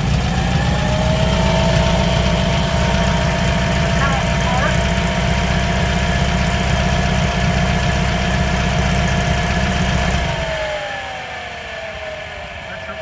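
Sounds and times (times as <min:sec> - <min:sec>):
car engine idling: 0:00.0 - 0:13.0
cooling fan whine: 0:00.0 - 0:13.0.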